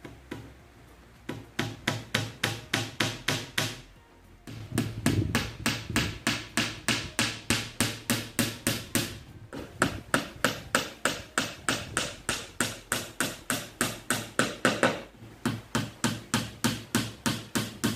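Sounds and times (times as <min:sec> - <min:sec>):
hammer driving nails into wood: 0:01.3 - 0:03.9, 0:04.5 - 0:17.9.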